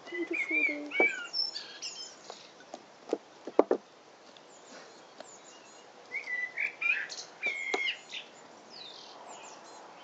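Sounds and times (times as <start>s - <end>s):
bird singing: 0.0s - 10.0s.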